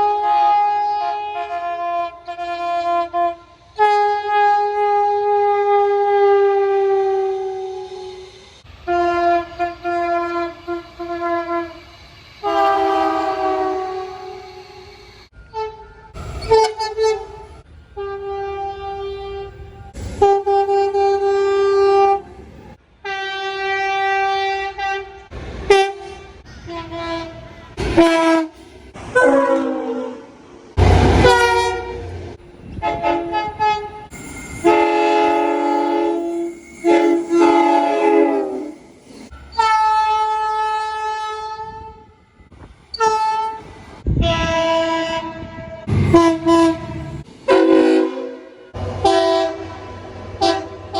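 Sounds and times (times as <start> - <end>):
train horn blasts: 0.0 - 50.9.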